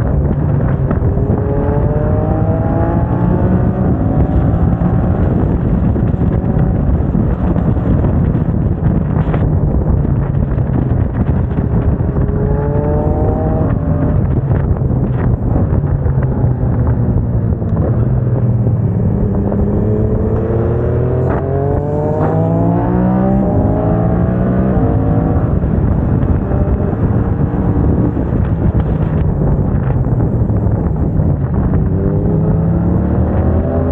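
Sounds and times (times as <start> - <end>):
motorcycle engine: 0.0 - 33.9
wind noise: 0.0 - 33.9.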